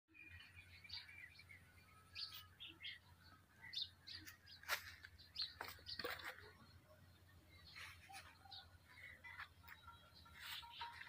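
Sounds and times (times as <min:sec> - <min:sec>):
faint birds chirping: 0:00.1 - 0:11.0.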